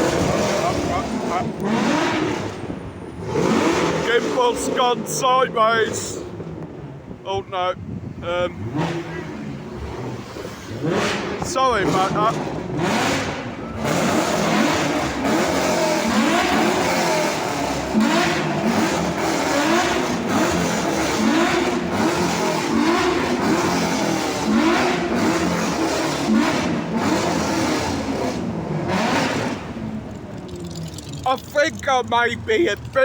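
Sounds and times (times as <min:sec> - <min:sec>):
car engine revving: 0:00.0 - 0:07.2, 0:08.1 - 0:33.0.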